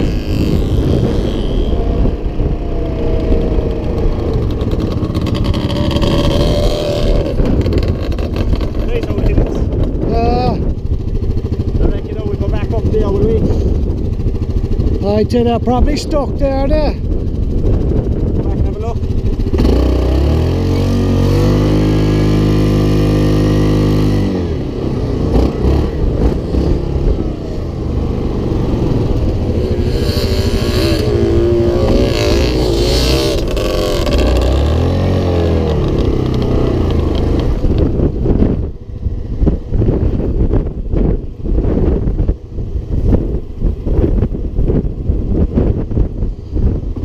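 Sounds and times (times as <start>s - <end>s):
quad engine revving: 0.0s - 38.6s
wind buffeting microphone: 0.0s - 47.0s.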